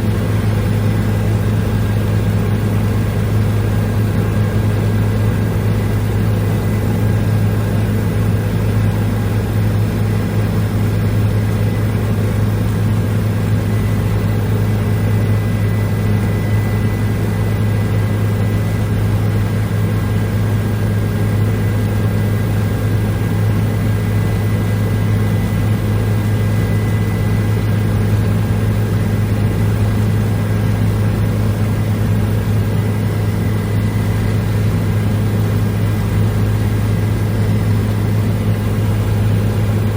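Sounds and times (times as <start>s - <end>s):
helicopter high whine: 0.0s - 39.9s
helicopter low drone: 0.0s - 39.9s.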